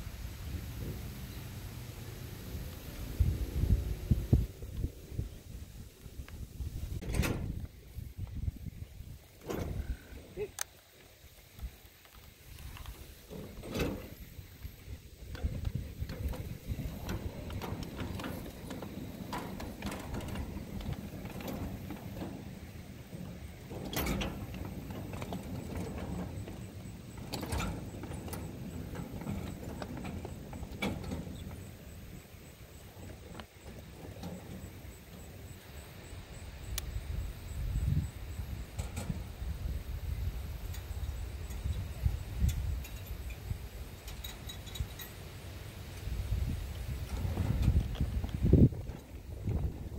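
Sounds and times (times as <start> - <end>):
model train wheels rumbling: 0.0 - 49.9
wheels clanking over rail joints: 0.0 - 49.9.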